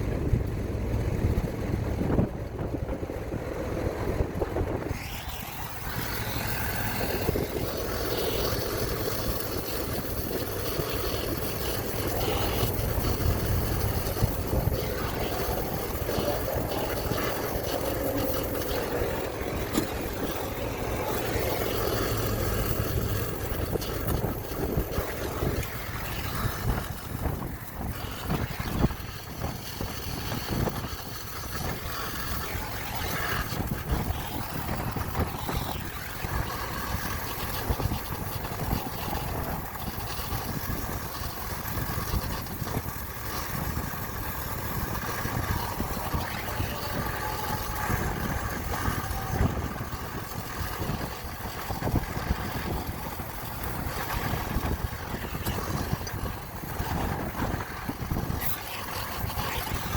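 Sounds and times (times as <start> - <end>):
low steady rumble: 0.0 - 59.9
brazing torch hissing: 4.7 - 59.9.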